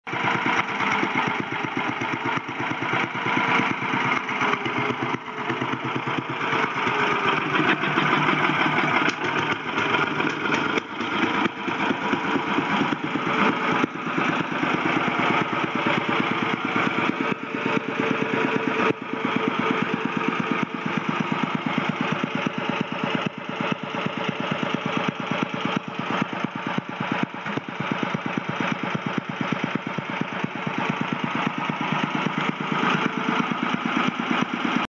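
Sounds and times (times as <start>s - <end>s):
single-cylinder engine running: 0.1s - 34.9s.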